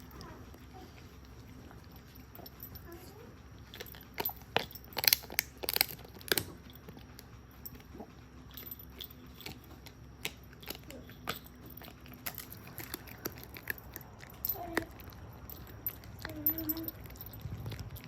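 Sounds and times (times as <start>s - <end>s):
dog chewing a treat: 0.0s - 18.0s.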